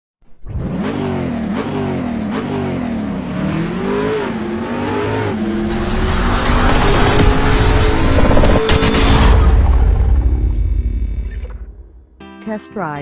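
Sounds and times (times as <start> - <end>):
motorcycle engine revving: 0.2 - 12.0.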